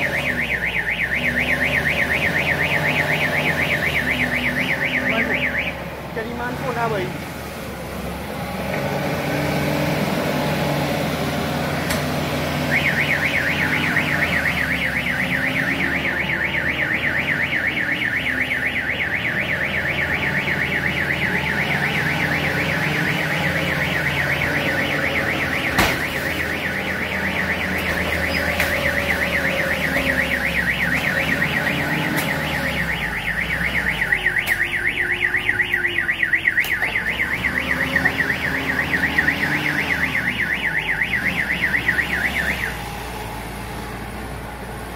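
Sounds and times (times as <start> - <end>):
warbling electronic alarm: 0.0 - 5.8, 12.6 - 42.9
forklift engine running: 7.6 - 44.9.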